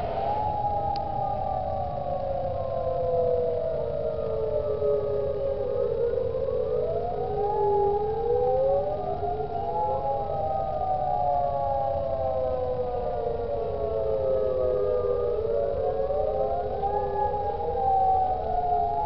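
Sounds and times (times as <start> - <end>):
warning sirens wailing: 0.0 - 19.0.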